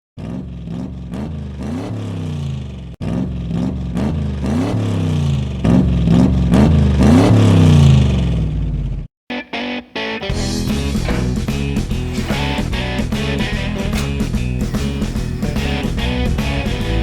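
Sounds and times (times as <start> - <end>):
car engine revving: 0.2 - 9.1, 10.3 - 17.0.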